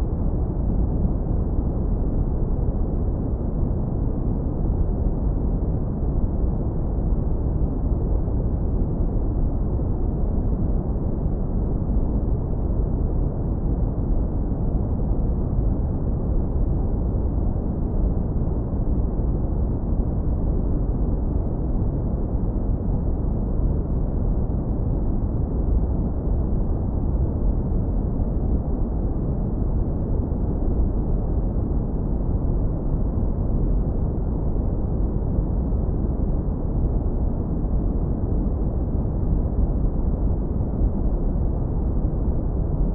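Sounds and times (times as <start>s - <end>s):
deep brown noise rumble: 0.0s - 42.9s.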